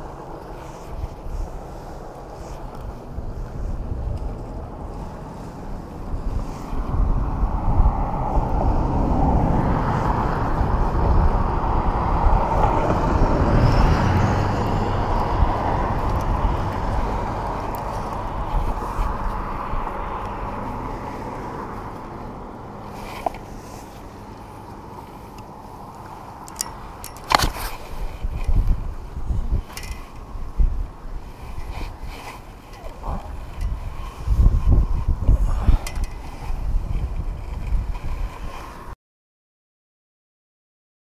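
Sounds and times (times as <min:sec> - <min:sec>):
rush of wind and water: 0:00.0 - 0:39.0
boat engine rumbling: 0:01.2 - 0:38.2.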